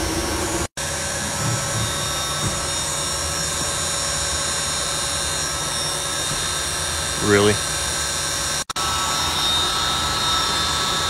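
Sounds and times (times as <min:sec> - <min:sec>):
hvac equipment running: 0:00.0 - 0:11.0.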